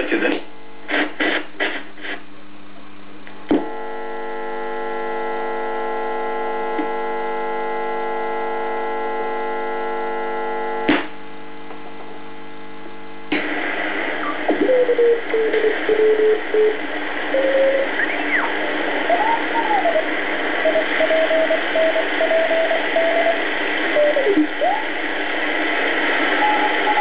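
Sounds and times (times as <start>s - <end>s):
radio static: 0.0s - 2.3s, 3.5s - 11.2s, 12.6s - 27.0s
radio speaker hum: 0.0s - 27.0s.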